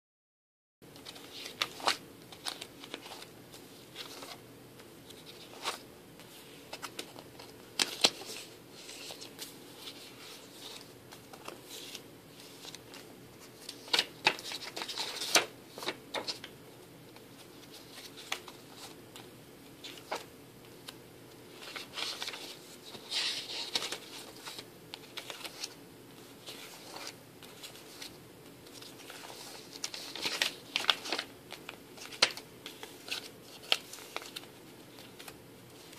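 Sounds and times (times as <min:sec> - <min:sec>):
pages rustling and crinkling: 0:00.9 - 0:04.4, 0:05.0 - 0:16.5, 0:17.1 - 0:35.9.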